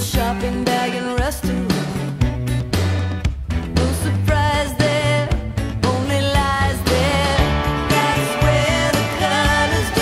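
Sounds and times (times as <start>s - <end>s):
pop song with beat and bass: 0.0s - 10.0s.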